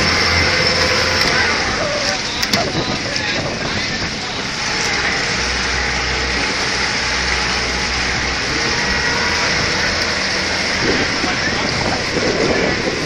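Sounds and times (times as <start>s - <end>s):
outboard motors droning: 0.0s - 13.0s
propeller wash churning: 0.0s - 13.0s.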